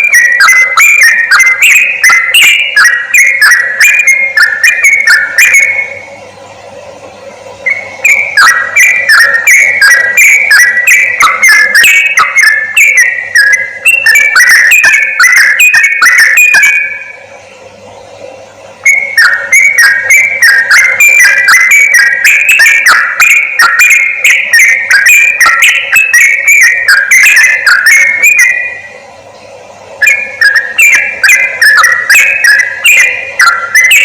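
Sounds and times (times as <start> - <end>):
bird singing: 0.0 - 6.1, 7.6 - 17.2, 18.8 - 28.9, 30.0 - 34.0.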